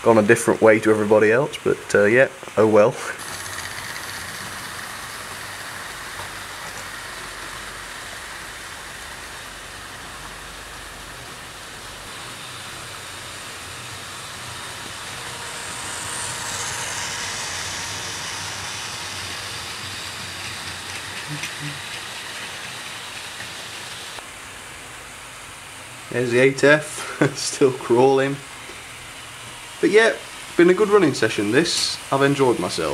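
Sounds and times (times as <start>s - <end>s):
model trains whirring on track: 0.0s - 32.9s.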